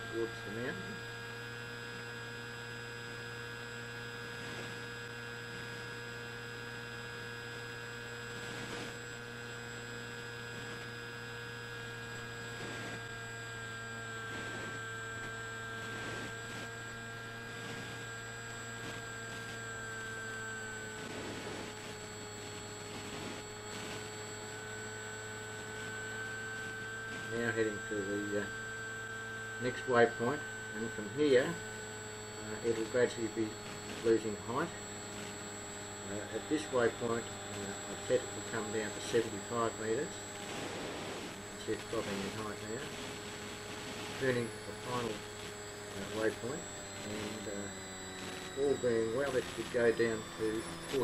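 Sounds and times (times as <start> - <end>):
electric motor and propeller hum: 0.0 - 51.0.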